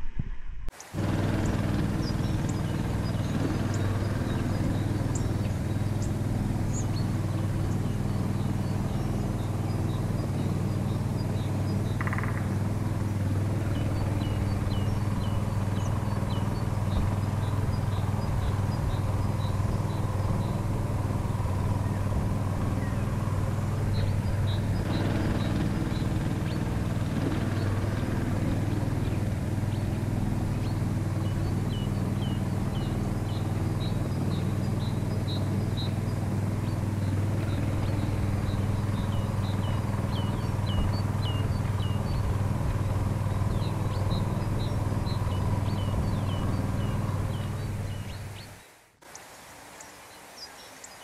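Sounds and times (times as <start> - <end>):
engine running steadily: 0.0 - 48.7
high bird chirps: 0.8 - 49.2.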